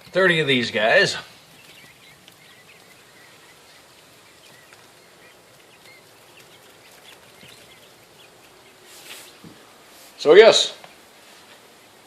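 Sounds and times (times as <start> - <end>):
baby quail peeping: 0.0 - 10.4.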